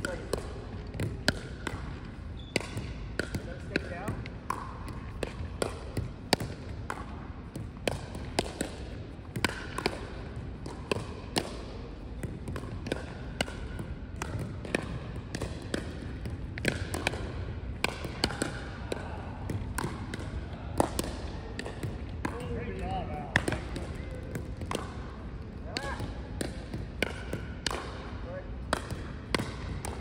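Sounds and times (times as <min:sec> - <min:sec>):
paddles hitting pickleball: 0:00.0 - 0:30.0.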